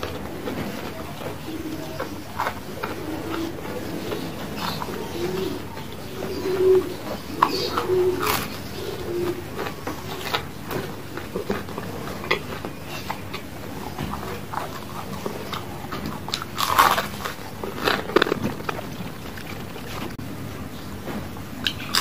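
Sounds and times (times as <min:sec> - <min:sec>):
chewing crunchy fried snack: 0:00.0 - 0:20.2, 0:21.6 - 0:22.0.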